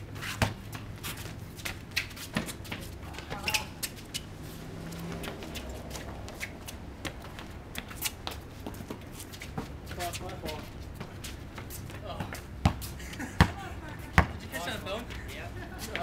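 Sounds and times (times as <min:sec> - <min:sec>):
sneakers scuffing on concrete: 0:00.1 - 0:16.0
basketball bouncing on concrete: 0:00.4 - 0:03.8, 0:05.0 - 0:14.5.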